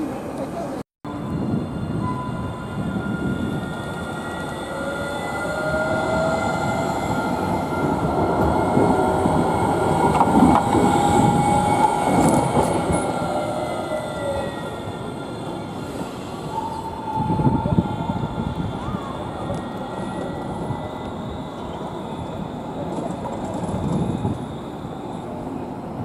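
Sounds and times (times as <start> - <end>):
train wheels rumbling: 1.1 - 26.0.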